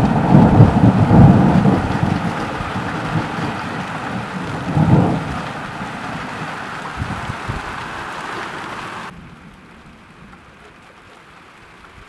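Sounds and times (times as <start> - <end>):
thunder rumbling: 0.0 - 10.6
steady rain: 0.0 - 12.0.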